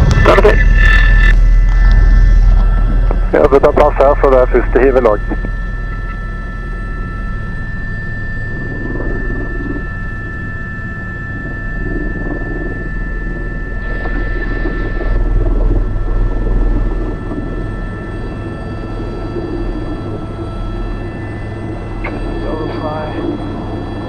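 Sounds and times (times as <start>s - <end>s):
helicopter main rotor beat: 0.0s - 24.0s
helicopter turbine whine: 0.0s - 24.0s.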